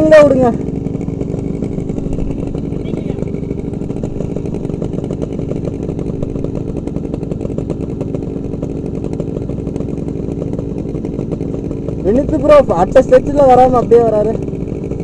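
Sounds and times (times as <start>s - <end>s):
two-stroke motorcycle engine idling: 0.0s - 15.0s.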